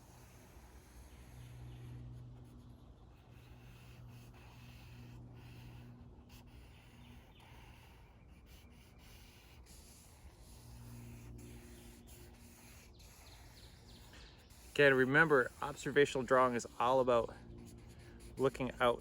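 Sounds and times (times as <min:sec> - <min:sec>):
low steady hum: 0:00.0 - 0:19.0
marker scratching on paper: 0:00.0 - 0:19.0.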